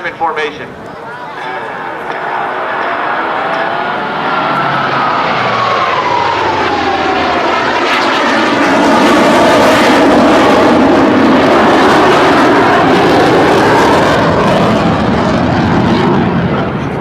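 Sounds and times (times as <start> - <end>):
jet engine roar: 0.0 - 17.0
jet whine falling in pitch: 0.9 - 17.0.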